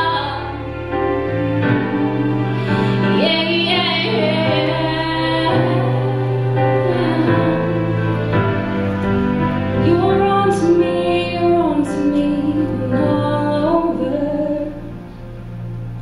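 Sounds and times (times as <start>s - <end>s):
women singing wordless notes: 0.0s - 8.3s, 9.8s - 14.9s
sustained piano: 0.0s - 16.0s.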